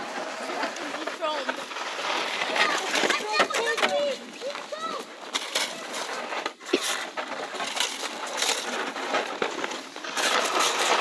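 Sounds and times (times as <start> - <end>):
snow shovels scraping: 0.0 - 11.0.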